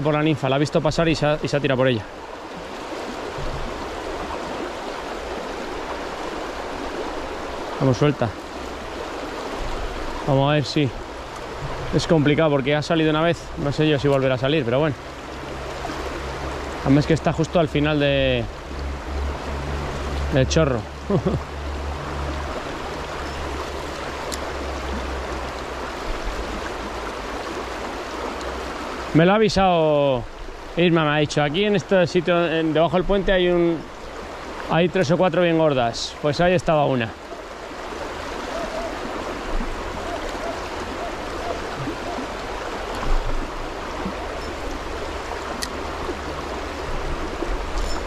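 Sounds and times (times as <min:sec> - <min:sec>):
river rushing over stones: 0:00.0 - 0:48.0.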